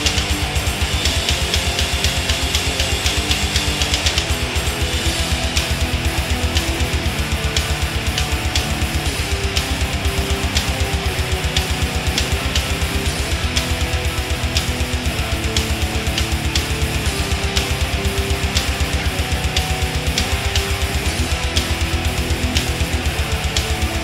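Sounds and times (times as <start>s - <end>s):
guitar rock music: 0.0s - 24.0s.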